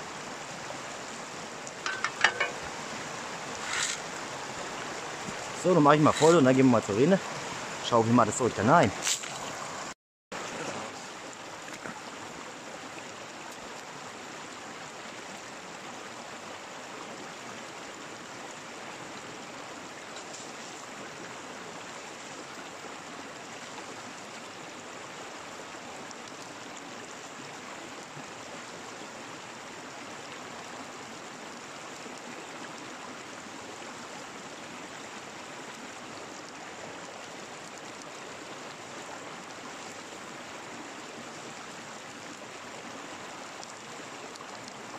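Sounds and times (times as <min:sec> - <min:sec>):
stream water running: 0:00.0 - 0:44.9.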